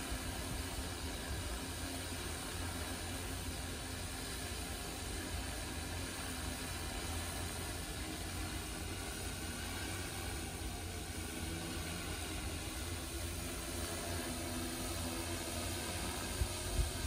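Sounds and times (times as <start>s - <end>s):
hexacopter motors whirring: 0.0s - 17.0s.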